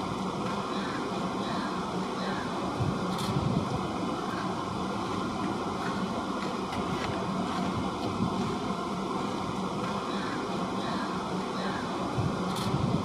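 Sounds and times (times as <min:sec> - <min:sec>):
steady rumbling: 0:00.0 - 0:13.0.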